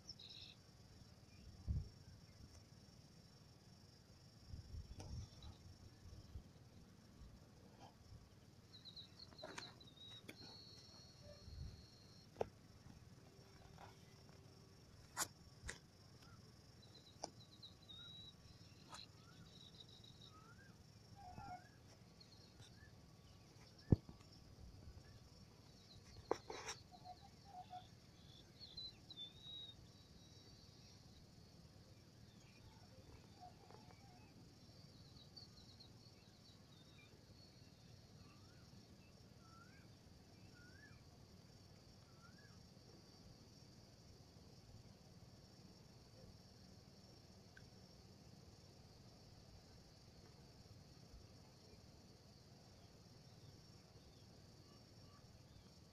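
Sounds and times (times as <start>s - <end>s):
faint high-pitched chirps: 0.0s - 55.9s
faint outdoor ambience: 0.0s - 55.9s
insect drone: 0.0s - 55.9s.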